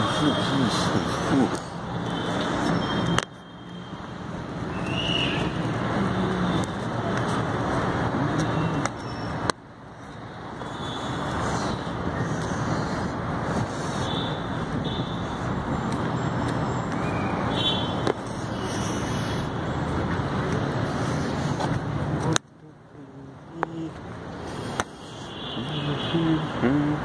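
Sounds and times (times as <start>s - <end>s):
road traffic hum: 0.0s - 27.0s.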